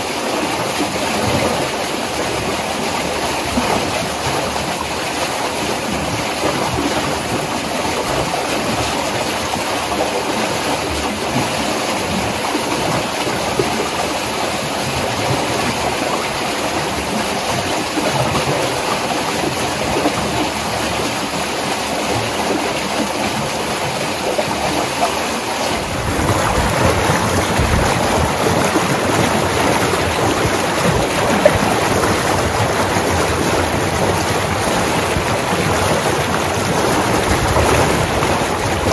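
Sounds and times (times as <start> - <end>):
water rushing along a channel: 0.0 - 38.9.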